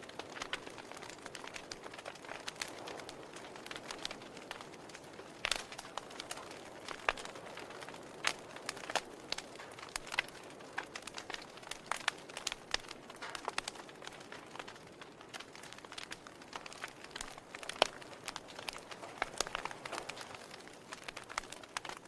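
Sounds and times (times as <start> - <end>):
soft hiss of flames: 0.0 - 22.0
wood fire crackling and popping: 0.0 - 22.0.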